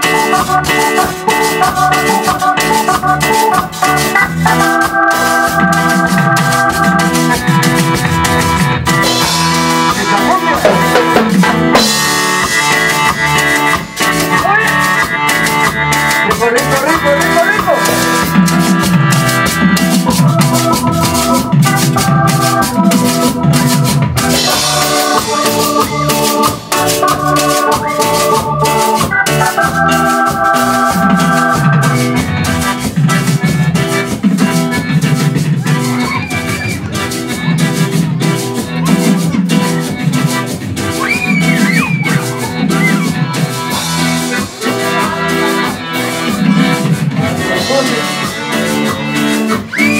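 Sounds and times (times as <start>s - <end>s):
drum kit dance beat: 0.0s - 49.9s
electric guitar: 0.0s - 49.9s
electronic keyboard chords: 0.0s - 49.9s.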